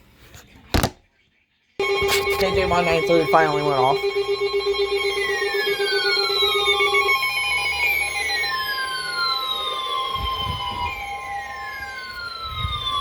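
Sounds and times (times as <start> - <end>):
pulsing alarm beeps: 1.8 - 12.9
falling siren-like alarm tone: 1.8 - 13.0
steady high warning tone: 1.8 - 13.0.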